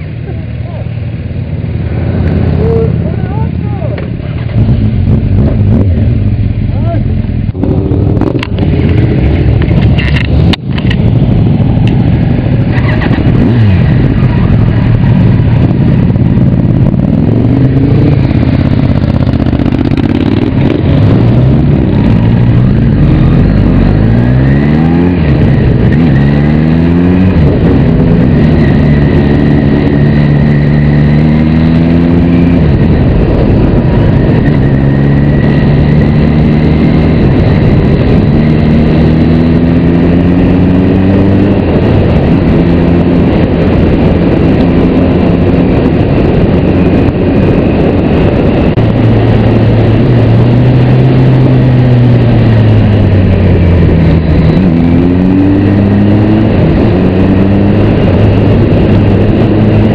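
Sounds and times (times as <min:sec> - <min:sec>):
motorcycle engine accelerating: 0:00.0 - 0:59.9
wind rushing past: 0:04.1 - 0:59.9.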